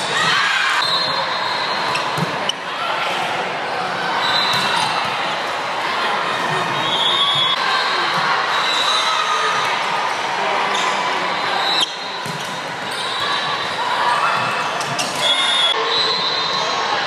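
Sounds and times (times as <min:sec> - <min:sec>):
din of voices in a hall: 0:00.0 - 0:17.0.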